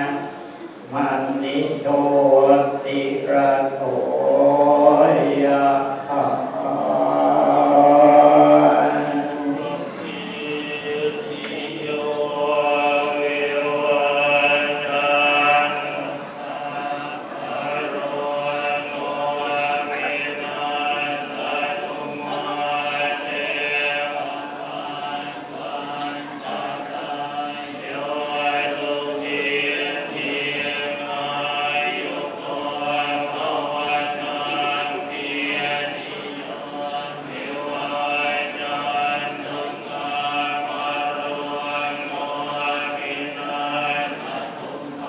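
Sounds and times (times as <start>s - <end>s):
monks chanting in unison: 0.0s - 45.0s.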